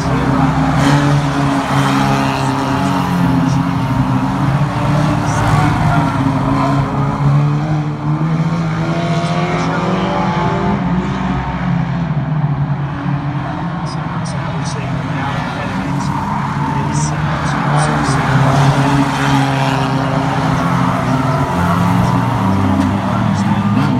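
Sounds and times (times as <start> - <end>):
racing car engines: 0.0 - 23.9.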